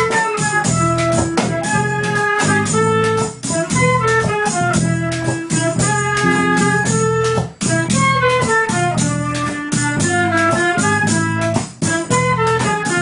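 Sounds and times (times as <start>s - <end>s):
folk melody of held notes: 0.0s - 13.0s
regular beat: 0.0s - 13.0s.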